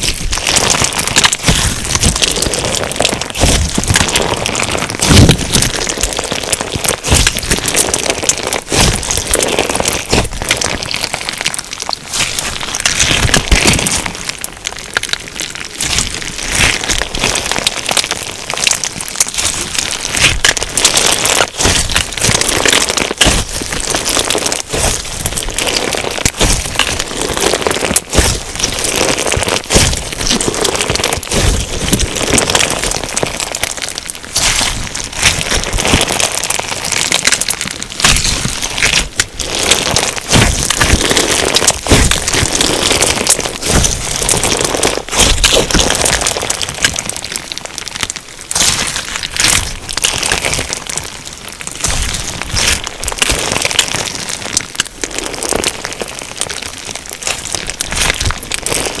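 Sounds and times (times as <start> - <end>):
crunchy slime crackling: 0.0 - 59.0.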